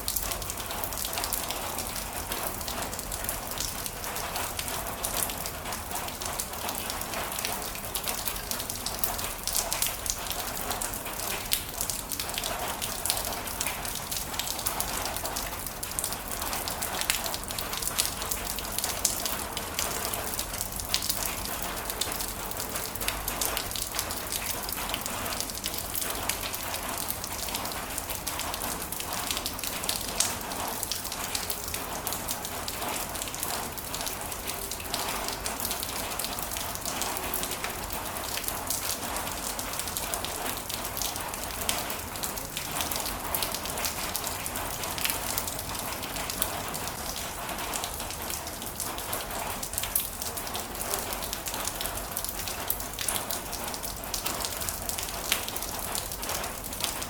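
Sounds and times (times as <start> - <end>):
heavy rain falling: 0.0 - 57.0
raindrops pattering on a surface: 0.0 - 57.0.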